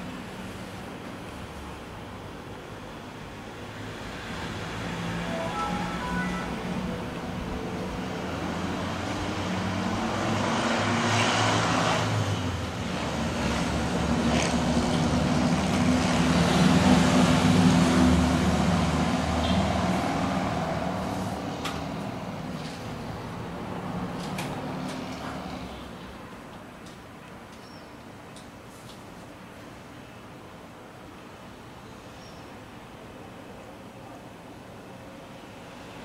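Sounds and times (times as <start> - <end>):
rumble of passing vehicles: 0.0 - 36.0.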